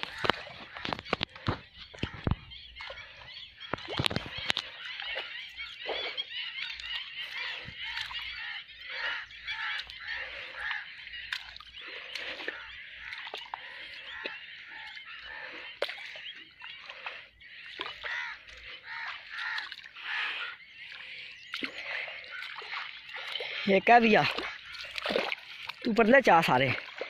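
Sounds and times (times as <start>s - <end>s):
flock of birds chattering: 0.0s - 27.0s.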